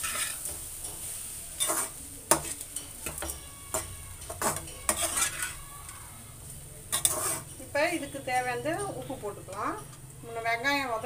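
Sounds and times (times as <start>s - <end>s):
spatula scraping metal pan: 0.0s - 5.8s, 6.8s - 11.0s
faint sizzle: 0.0s - 11.0s.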